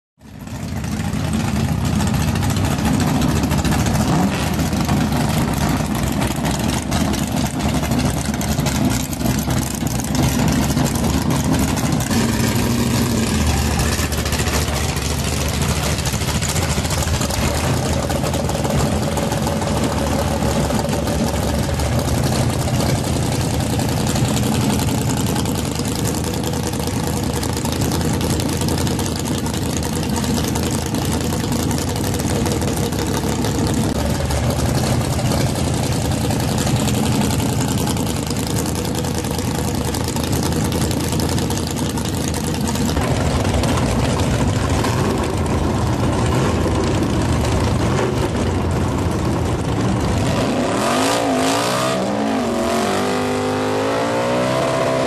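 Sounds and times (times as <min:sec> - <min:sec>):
car engine idling: 0:00.2 - 0:54.9.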